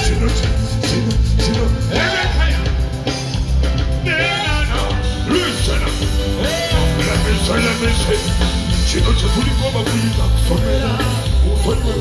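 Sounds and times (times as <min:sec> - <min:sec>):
live band with heavy bass beat: 0:00.0 - 0:12.0.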